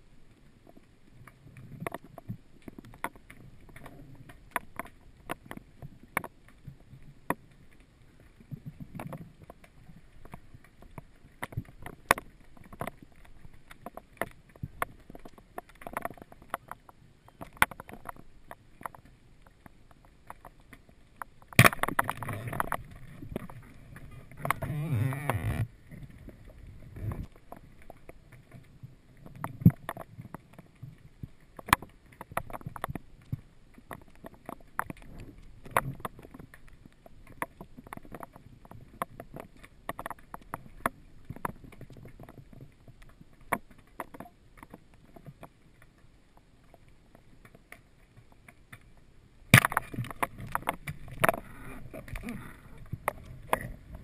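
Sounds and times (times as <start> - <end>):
underwater clicks and knocks: 0.6 - 54.0.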